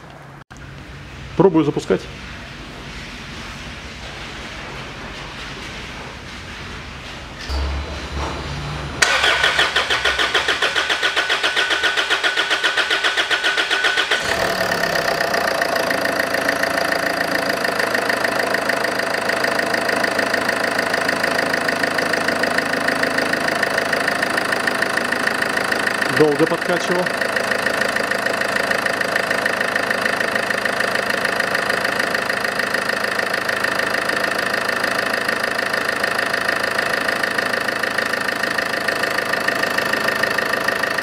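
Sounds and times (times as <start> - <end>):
diesel engine idling: 5.9 - 41.0
diesel engine cranking: 7.4 - 41.0.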